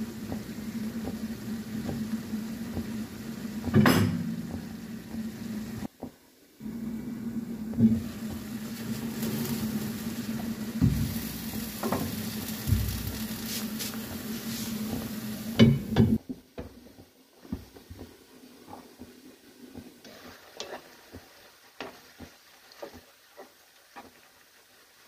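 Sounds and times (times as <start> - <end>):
food simmering hiss: 0.0 - 25.0.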